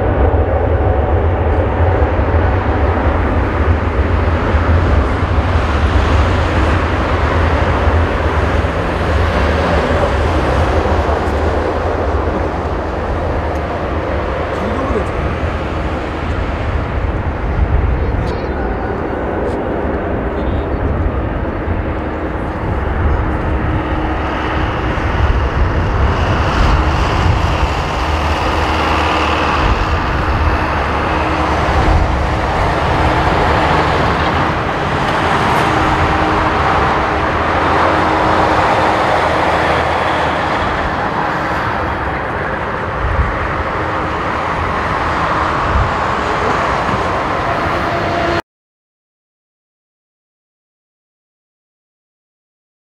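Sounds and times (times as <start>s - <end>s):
jet engines at takeoff: 0.0s - 48.4s.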